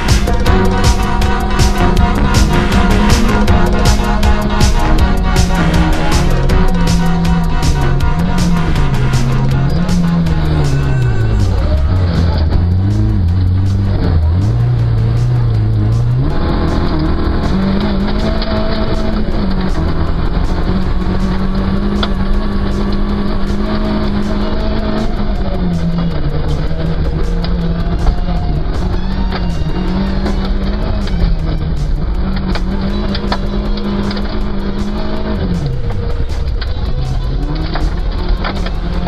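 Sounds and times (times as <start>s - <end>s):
racing car engines running: 0.0s - 39.0s
rock music playing: 0.0s - 39.0s.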